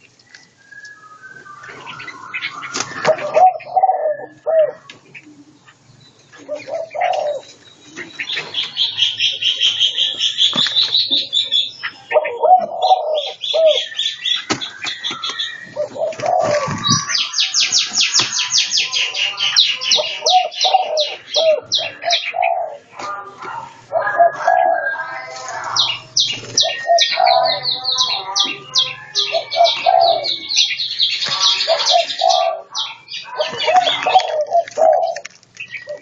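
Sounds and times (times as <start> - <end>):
doves cooing: 0.0 - 36.0
songbirds chirping and trilling: 0.0 - 36.0.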